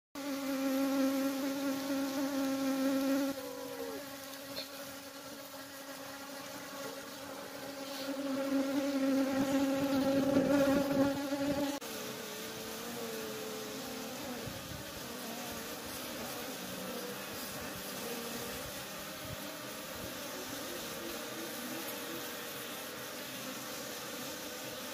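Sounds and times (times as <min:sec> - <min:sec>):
honeybees buzzing: 0:00.2 - 0:24.9.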